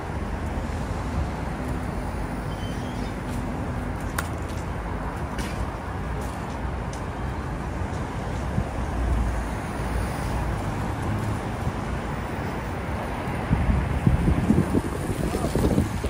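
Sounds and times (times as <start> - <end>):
traffic rumble on busy road: 0.0 - 16.0.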